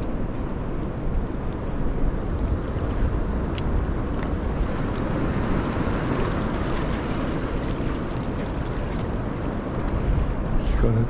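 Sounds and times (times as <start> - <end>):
surf washing against rocks: 0.0 - 11.0
wind blowing across microphone: 0.0 - 11.0.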